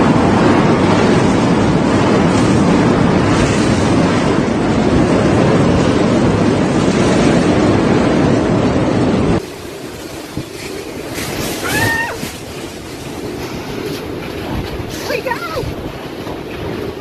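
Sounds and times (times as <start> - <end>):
gusting wind: 0.0 - 17.0
strong wind and heavy rain: 0.0 - 17.0.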